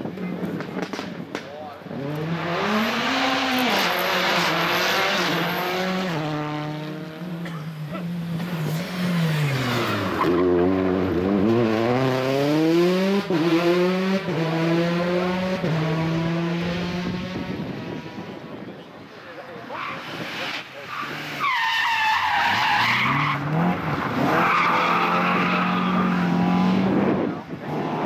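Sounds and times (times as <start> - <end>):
rally car engine revving: 1.9 - 18.4, 19.7 - 28.0.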